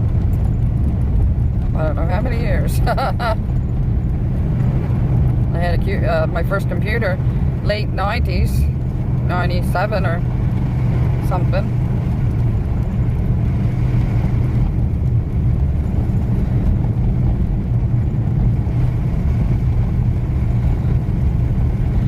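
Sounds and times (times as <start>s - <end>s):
vehicle engine and tyre noise: 0.0s - 22.0s.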